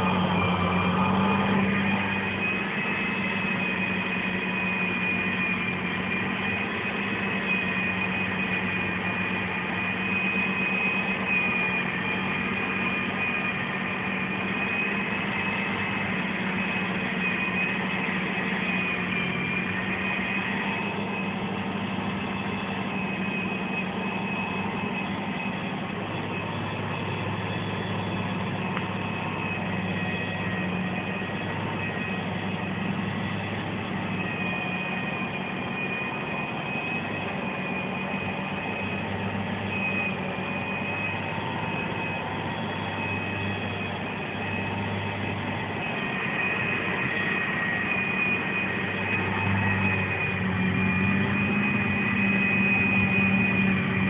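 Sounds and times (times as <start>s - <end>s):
high whine: 0.0s - 54.0s
tractor engine running: 0.0s - 54.0s.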